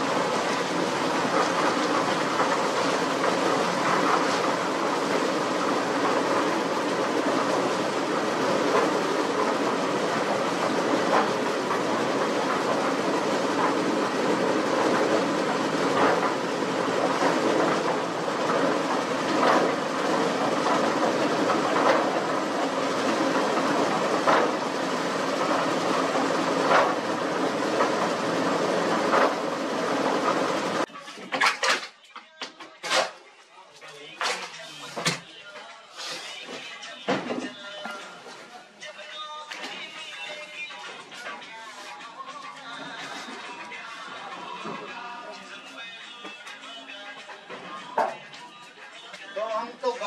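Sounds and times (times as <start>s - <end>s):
cement mixer clattering: 0.0s - 33.2s, 33.8s - 50.0s.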